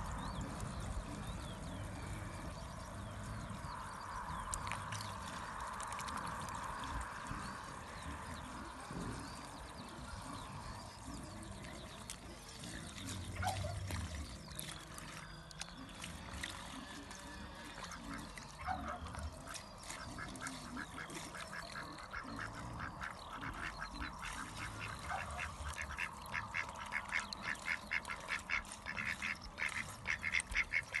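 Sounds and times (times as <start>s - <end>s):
goose bill splashing in water: 4.2s - 31.0s.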